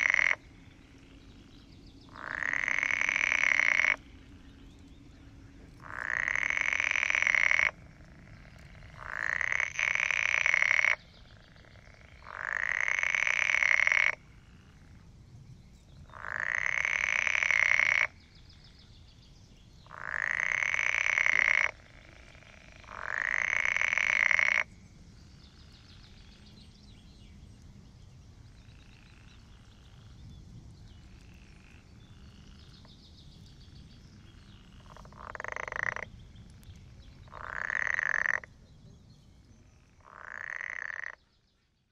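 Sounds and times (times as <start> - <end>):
frog croaking: 0.0 - 15.0, 16.0 - 18.7, 19.8 - 26.5, 28.6 - 30.2, 30.9 - 32.9, 33.6 - 38.6, 39.6 - 41.4.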